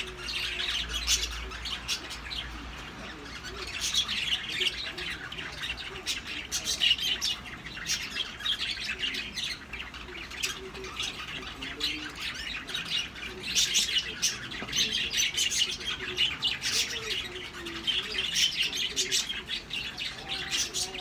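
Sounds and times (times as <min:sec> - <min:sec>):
birds chirping and squawking: 0:00.0 - 0:21.0.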